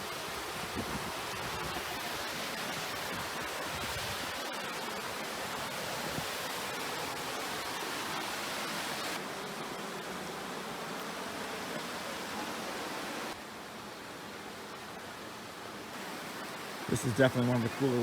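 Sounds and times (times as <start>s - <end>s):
stream and waterfall rushing: 0.0s - 9.8s, 10.6s - 18.0s.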